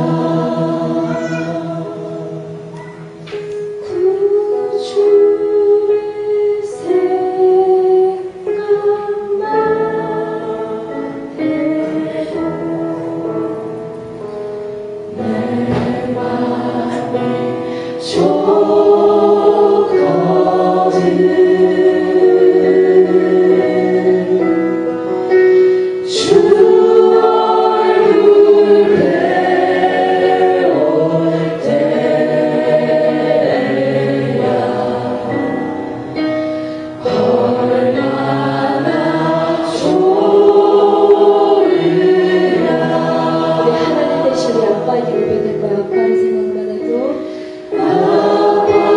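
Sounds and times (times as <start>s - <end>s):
group singing worship song: 0.0s - 48.9s.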